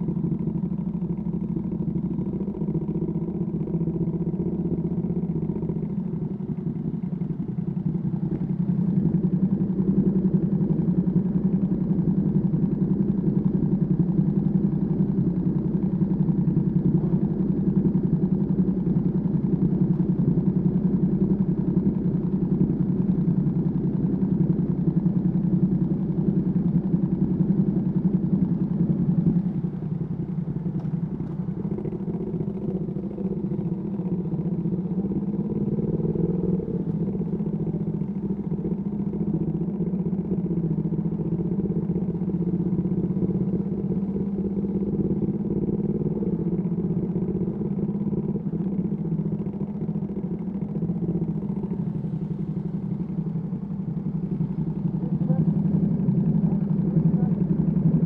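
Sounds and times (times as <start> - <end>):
motorcycle engine while riding: 0.0 - 58.0.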